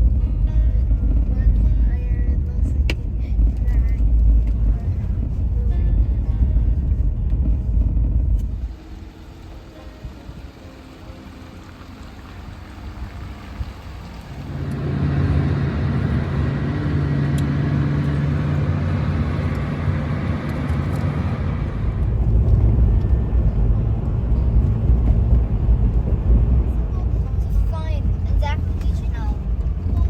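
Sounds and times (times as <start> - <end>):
heavy low rumble: 0.0 - 30.0
road noise: 0.0 - 30.0
vehicle engine hum: 0.0 - 30.0.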